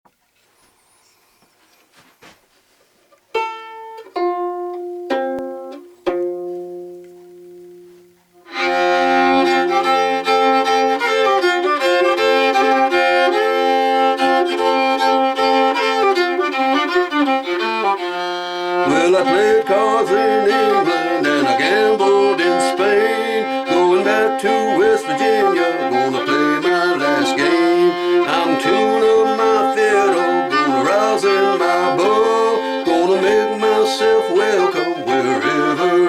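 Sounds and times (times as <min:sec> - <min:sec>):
plucked fiddle notes: 0:03.2 - 0:36.0
bowed fiddle old-time tune: 0:03.3 - 0:07.1, 0:08.4 - 0:36.0.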